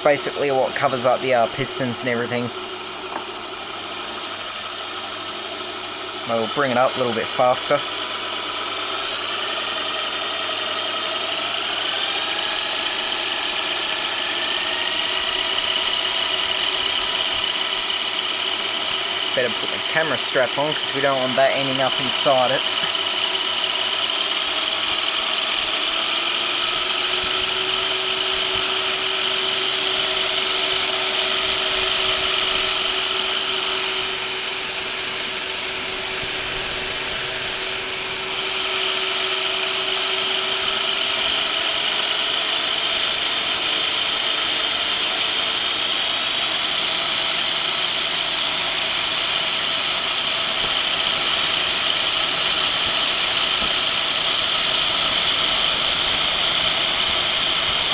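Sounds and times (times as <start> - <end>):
pressure washer motor whining: 0.0 - 57.9.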